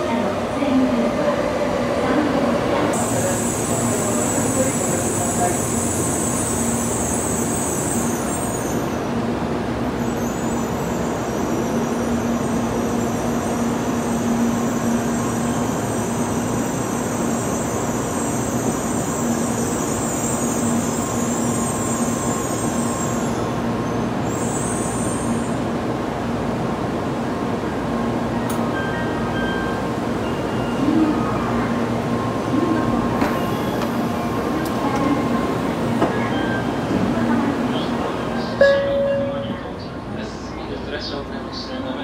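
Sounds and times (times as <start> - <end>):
train equipment humming and hissing: 0.0 - 42.0.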